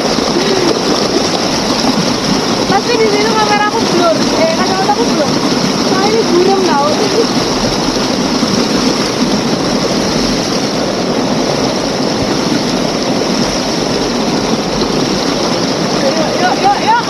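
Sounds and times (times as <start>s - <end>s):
heavy rain falling: 0.0s - 17.0s
low rumbles: 0.0s - 17.0s.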